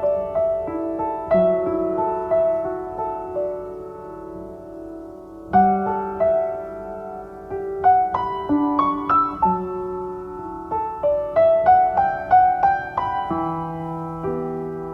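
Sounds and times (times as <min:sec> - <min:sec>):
slow piano melody: 0:00.0 - 0:14.9.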